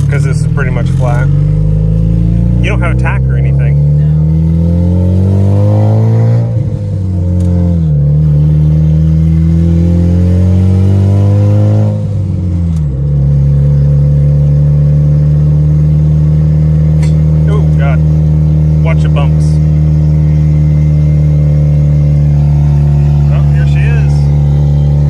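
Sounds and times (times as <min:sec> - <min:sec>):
car engine accelerating through gears: 0:00.0 - 0:25.0.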